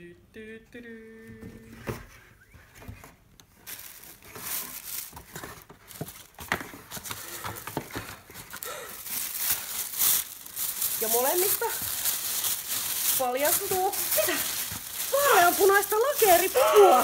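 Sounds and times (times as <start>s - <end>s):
tissue paper rustling: 2.6s - 17.0s.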